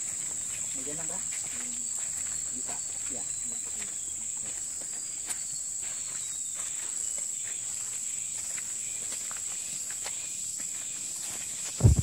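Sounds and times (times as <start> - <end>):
footsteps on muddy trail: 0.0 - 12.0
high-pitched insect chorus: 0.0 - 12.0.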